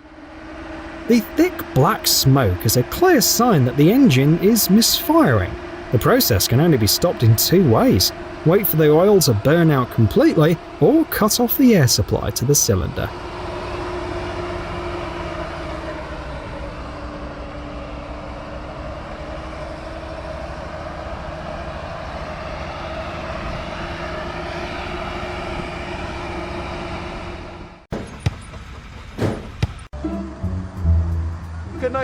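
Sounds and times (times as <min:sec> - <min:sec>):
engine running at high speed: 0:00.0 - 0:32.0.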